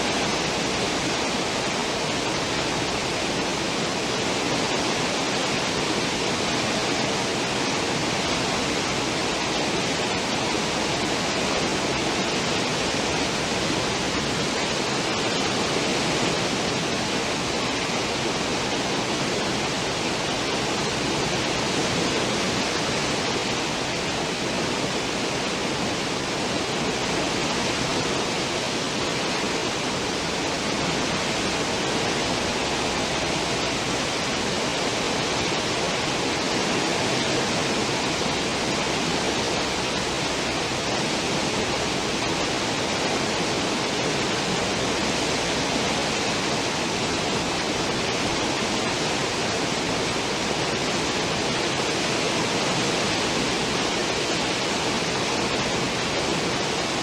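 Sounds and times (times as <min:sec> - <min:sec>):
churning water rushing: 0:00.0 - 0:57.0.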